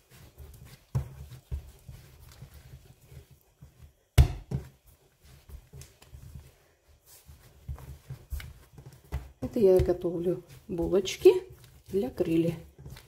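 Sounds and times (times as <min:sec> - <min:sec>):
dough thudding on countertop: 0:00.1 - 0:13.0.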